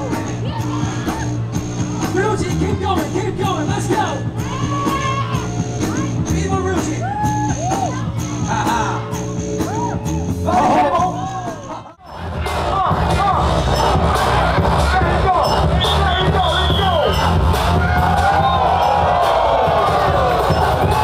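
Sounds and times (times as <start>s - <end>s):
music with heavy bass and vocals: 0.0s - 21.0s.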